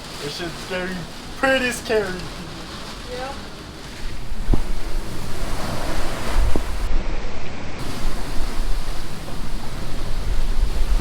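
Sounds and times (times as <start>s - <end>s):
strong wind gusts buffeting microphone: 0.0s - 11.0s
waves washing against boat: 0.0s - 11.0s.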